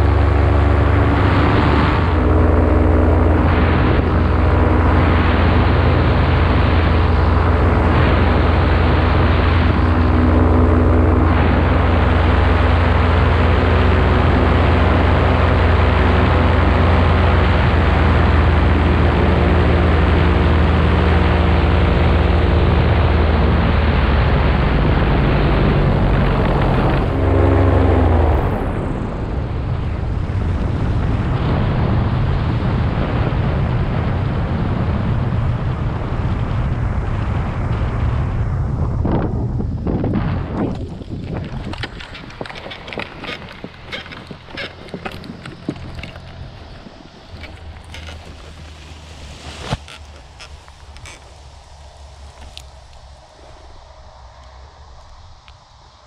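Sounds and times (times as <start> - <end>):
paramotor engine and propeller: 0.0 - 56.0
wind rush: 0.0 - 56.0.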